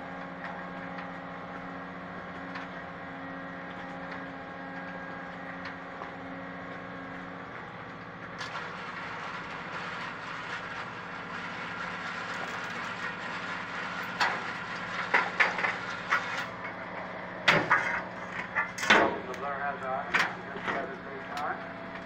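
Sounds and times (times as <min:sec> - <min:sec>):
motor humming with faint ticking: 0:00.0 - 0:22.0.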